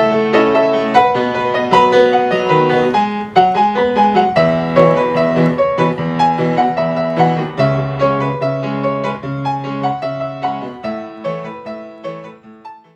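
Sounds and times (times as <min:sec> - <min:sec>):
gentle piano music: 0:00.0 - 0:12.9.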